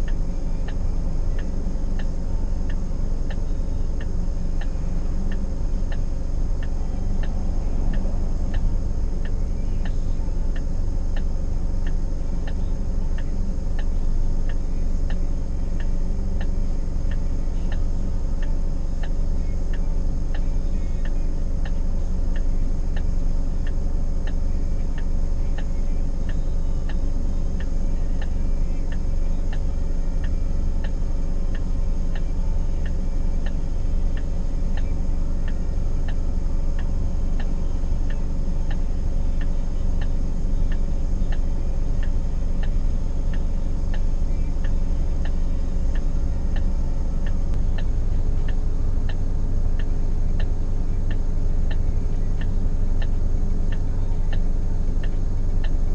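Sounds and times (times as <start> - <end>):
car engine rumbling: 0.0 - 55.9
flasher relay ticking: 0.0 - 55.9.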